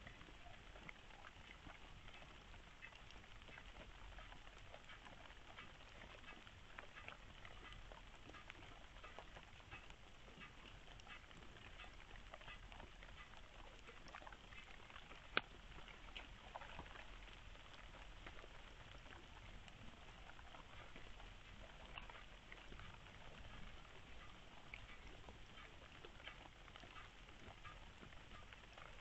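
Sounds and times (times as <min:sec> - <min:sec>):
low steady hiss: 0:00.0 - 0:29.0.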